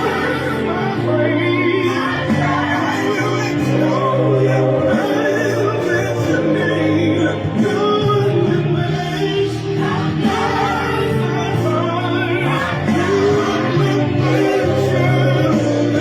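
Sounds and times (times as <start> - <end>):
choir singing: 0.0 - 16.0
instrumental backing: 0.0 - 16.0.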